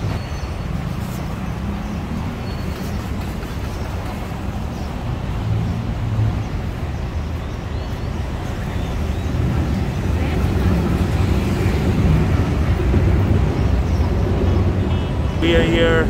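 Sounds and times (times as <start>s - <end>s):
rumble of passing traffic: 0.0s - 16.0s.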